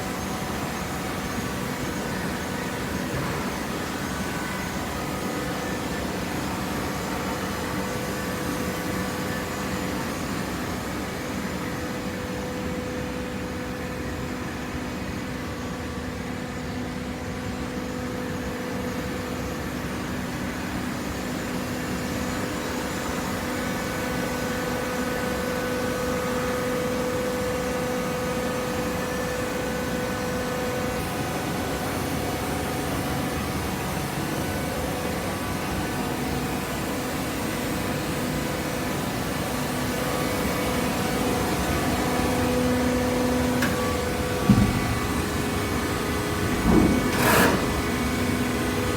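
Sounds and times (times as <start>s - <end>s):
baler motor and pump humming: 0.0s - 48.9s.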